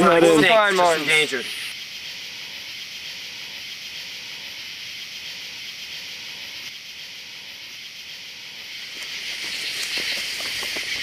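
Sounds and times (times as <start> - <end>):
night insects chorus: 0.0 - 11.0.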